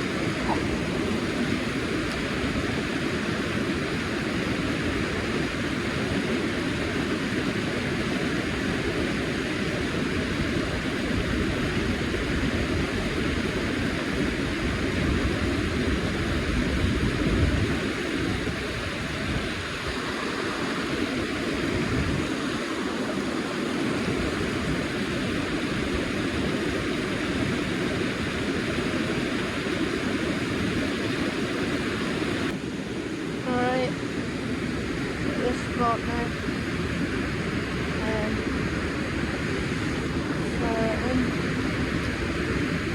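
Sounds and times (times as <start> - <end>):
river current rushing: 0.0 - 42.9.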